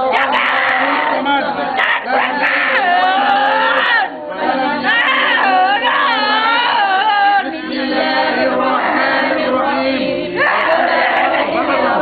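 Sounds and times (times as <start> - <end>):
voices chanting together: 0.0 - 12.0.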